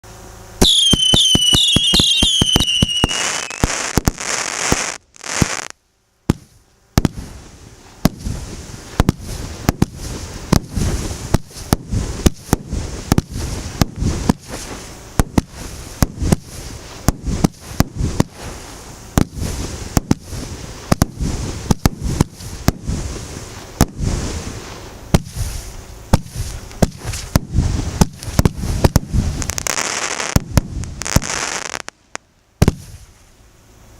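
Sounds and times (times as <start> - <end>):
whistling firework shots: 0.6 - 5.7, 6.3 - 24.5, 25.1 - 32.0, 32.6 - 33.2
sharp firework shots: 0.6 - 32.0, 32.6 - 33.2
firework crackling: 0.6 - 33.4.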